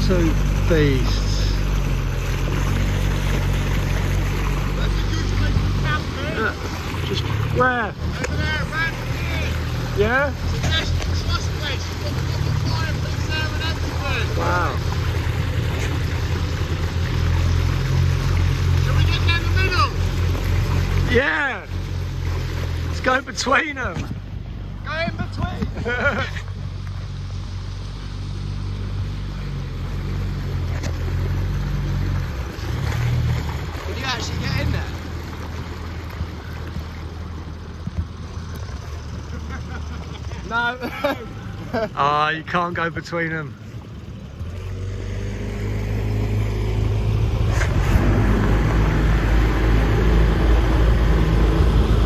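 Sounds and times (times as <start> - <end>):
boat engine running steadily: 0.0 - 52.0
water rushing: 0.0 - 52.0
wind: 0.0 - 52.0.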